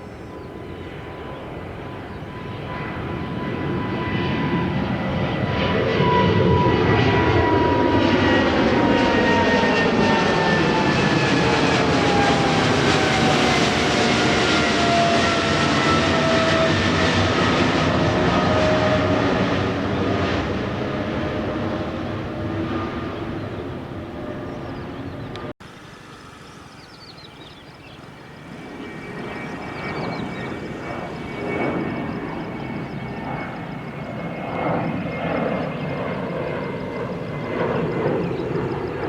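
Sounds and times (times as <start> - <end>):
jet engine whine falling in pitch: 0.0 - 39.0
jet engines roaring: 0.0 - 39.0.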